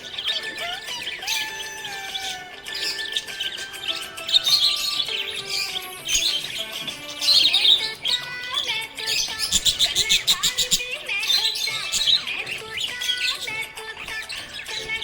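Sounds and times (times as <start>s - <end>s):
background music: 0.0s - 15.0s
budgerigars chirping and warbling: 0.0s - 15.0s.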